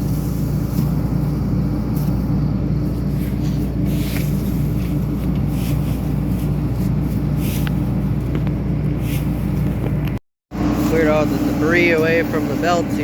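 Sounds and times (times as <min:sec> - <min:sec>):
combine harvester engine running: 0:00.0 - 0:13.0.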